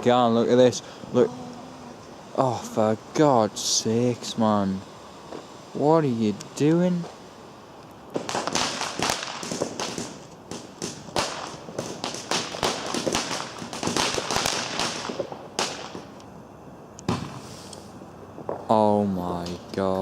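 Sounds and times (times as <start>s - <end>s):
fireworks crackling and popping: 0.0s - 16.3s, 17.0s - 20.0s.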